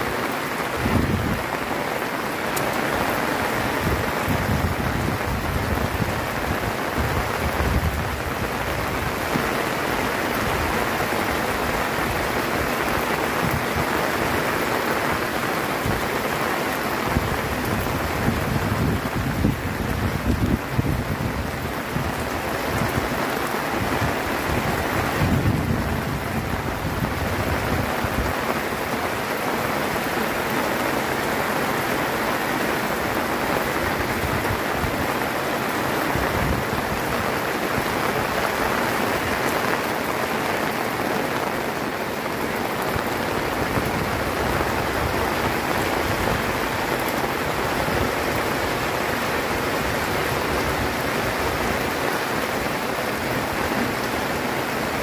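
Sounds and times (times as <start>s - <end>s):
heavy rain on roofs: 0.0s - 55.0s.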